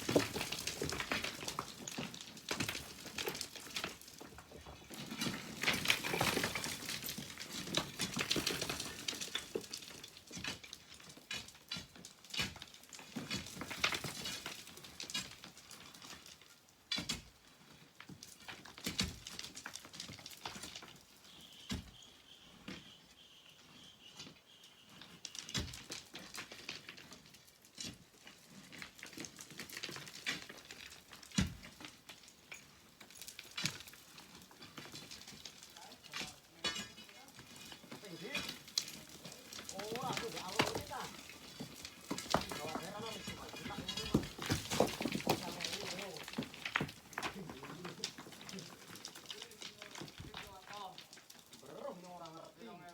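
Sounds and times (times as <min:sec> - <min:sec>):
sand and pebbles clattering: 0:00.0 - 0:52.9.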